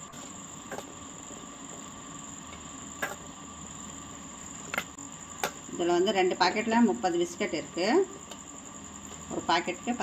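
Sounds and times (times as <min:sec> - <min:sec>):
biscuits sizzling in fat: 0:00.0 - 0:10.0.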